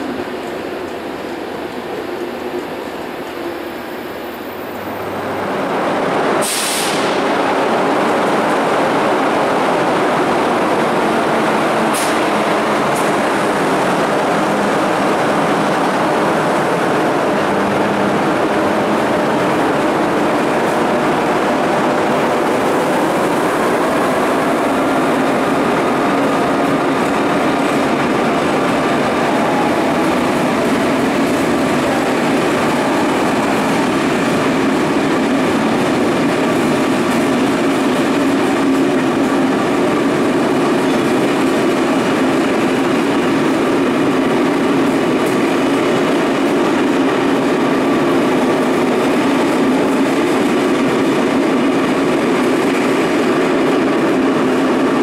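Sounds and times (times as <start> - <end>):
train wheels rushing on rails: 0.0 - 55.0.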